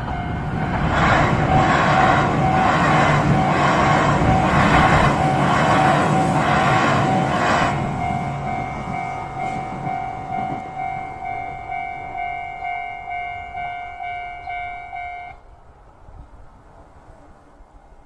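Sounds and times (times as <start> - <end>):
level crossing warning bell: 0.0 - 15.4
passing train rushing: 0.0 - 18.0.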